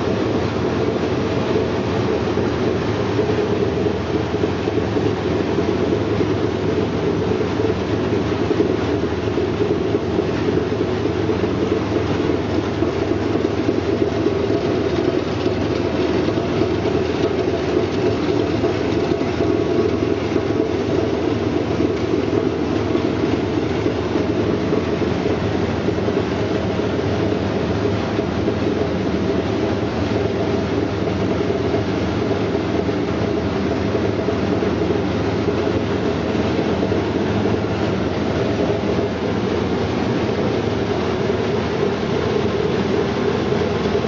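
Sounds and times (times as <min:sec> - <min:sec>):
washing machine rattling drone: 0:00.0 - 0:44.0.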